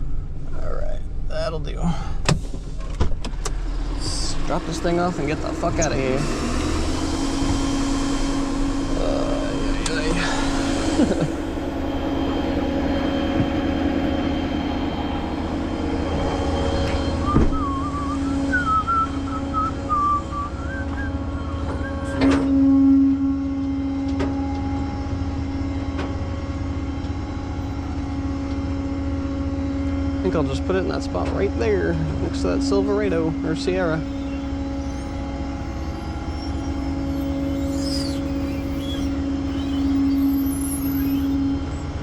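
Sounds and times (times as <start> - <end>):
tow truck engine droning: 0.0 - 42.0
warbling squeal: 4.0 - 42.0.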